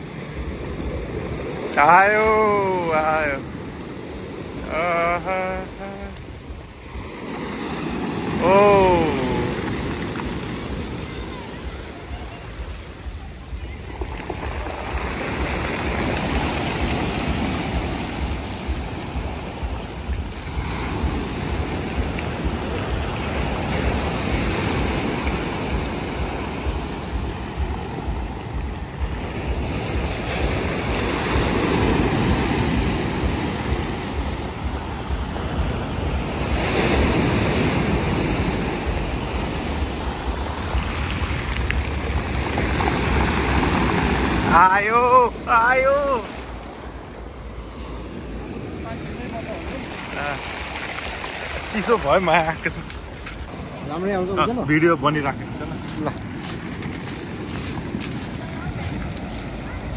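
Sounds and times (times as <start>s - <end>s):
sea waves washing in: 0.0s - 59.9s
wind rumbling on microphone: 0.0s - 59.9s.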